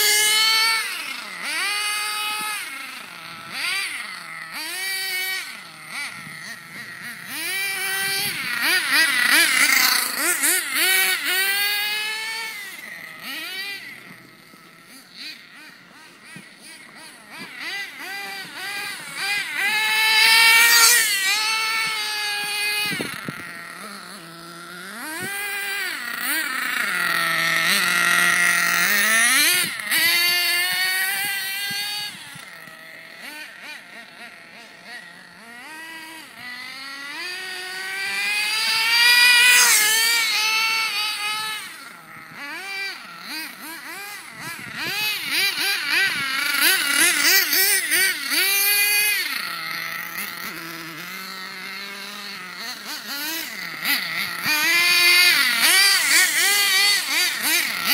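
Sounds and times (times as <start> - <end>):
small nitro engine revving: 0.0 - 57.9.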